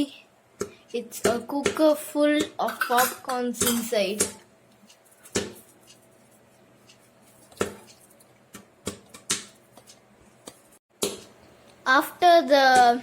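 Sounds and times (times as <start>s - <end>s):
popcorn popping: 0.6s - 6.2s, 6.8s - 11.5s, 12.5s - 13.0s.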